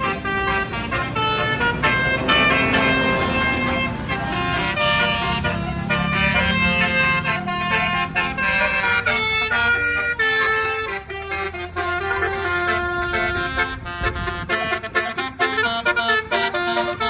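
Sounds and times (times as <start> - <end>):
bus engine rumbling: 0.0 - 17.0
bus horn playing melody: 0.0 - 17.0.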